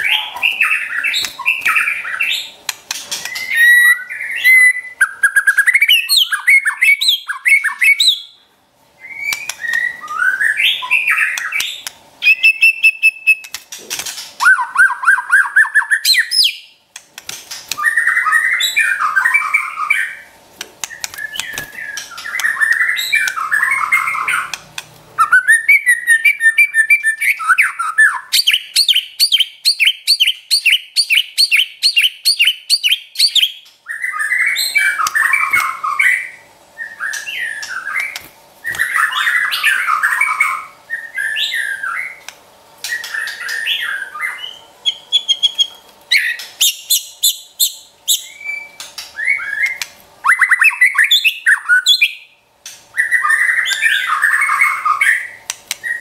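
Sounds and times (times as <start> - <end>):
bird singing whistles and chatters: 0.0 - 8.4, 9.0 - 13.6, 14.4 - 16.8, 17.8 - 24.6, 25.2 - 42.2, 42.8 - 52.4, 53.0 - 56.0.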